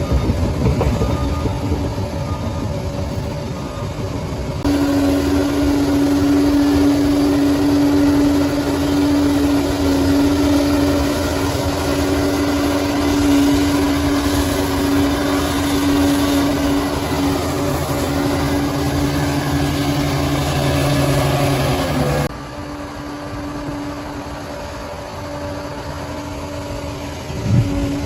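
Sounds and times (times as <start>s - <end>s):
bulldozer diesel engine running: 0.0s - 28.0s
constant high whine: 0.0s - 28.0s.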